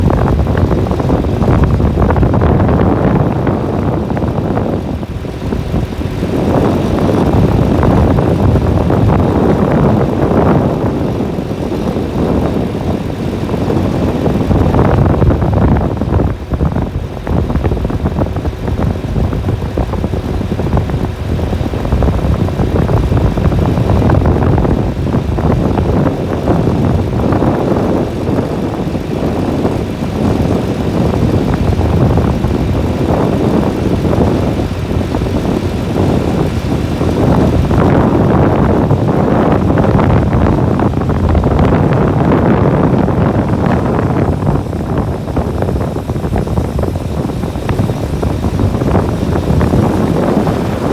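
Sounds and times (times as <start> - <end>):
heavy farm machinery running: 0.0 - 50.9.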